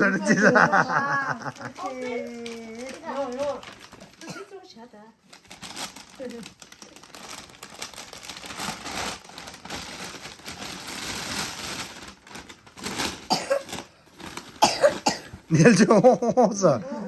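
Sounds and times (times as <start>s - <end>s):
wrapping paper rustling: 0.0s - 16.3s.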